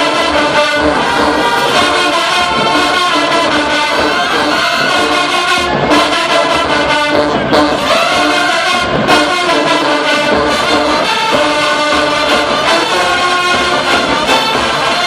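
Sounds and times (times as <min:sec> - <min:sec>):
drum beat: 0:00.0 - 0:15.0
marching band brass: 0:00.0 - 0:15.0.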